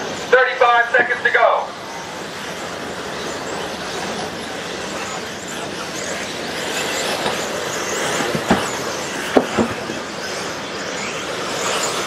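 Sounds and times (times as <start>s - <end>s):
rc car motors whining: 0.0s - 12.0s
tyres on dirt: 0.9s - 12.0s.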